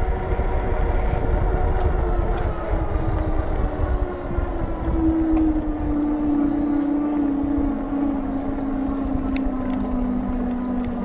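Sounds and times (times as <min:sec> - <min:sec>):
hub motor whine: 0:00.0 - 0:11.0
wind on microphone: 0:00.0 - 0:11.0.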